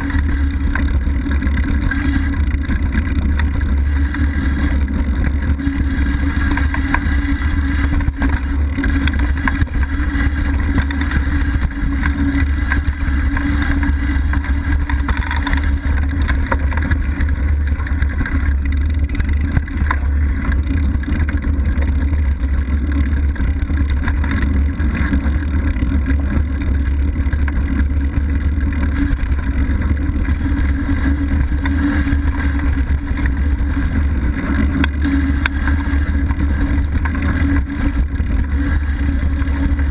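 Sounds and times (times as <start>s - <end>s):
bike knocks and rattles: 0.0s - 39.9s
wind and tyre rumble: 0.0s - 39.9s.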